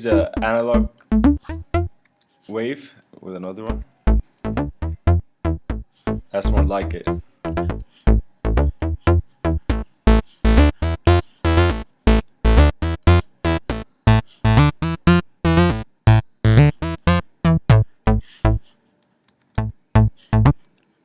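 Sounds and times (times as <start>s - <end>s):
plucked synth bass notes: 0.0s - 1.9s, 3.7s - 18.6s, 19.6s - 20.6s.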